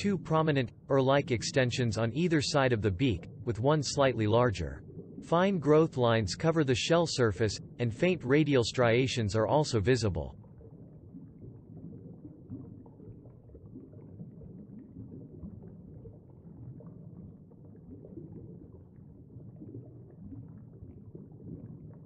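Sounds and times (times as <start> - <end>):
faint crackles: 0.0 - 22.0
low underwater rumble: 0.0 - 22.0.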